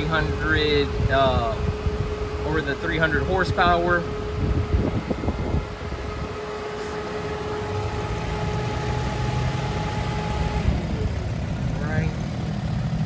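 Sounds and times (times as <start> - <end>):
car engine idling: 0.0 - 13.0
faint engine whine: 0.0 - 13.0.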